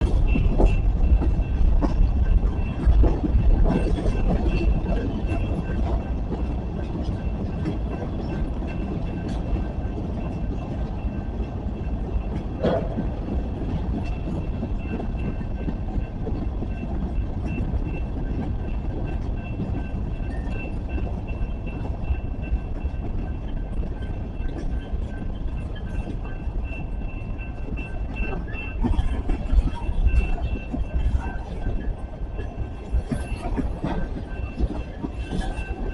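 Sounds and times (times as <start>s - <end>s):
railroad cars rumbling past: 0.0s - 35.9s
train wheels clicking: 0.0s - 35.9s.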